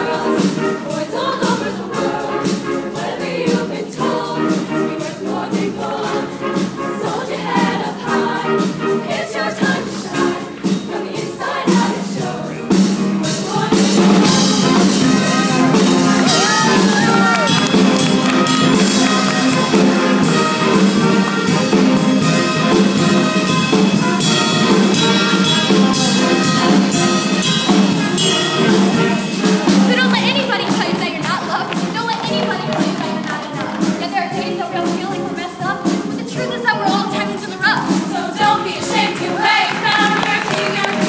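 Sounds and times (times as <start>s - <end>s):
choir singing: 0.0s - 31.2s, 36.2s - 41.0s
live band with drum kit: 0.0s - 41.0s.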